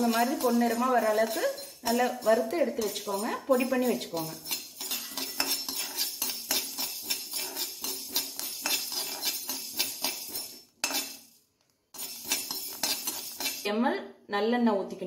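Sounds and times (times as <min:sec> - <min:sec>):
jingly metallic clinking: 0:00.0 - 0:11.4, 0:12.0 - 0:13.7
metal spoon scraping a pan: 0:00.0 - 0:13.7.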